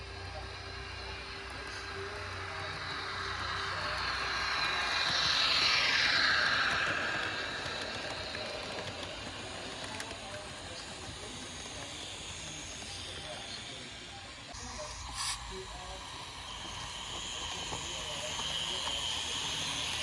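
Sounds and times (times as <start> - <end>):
model train hissing past: 0.0 - 20.0.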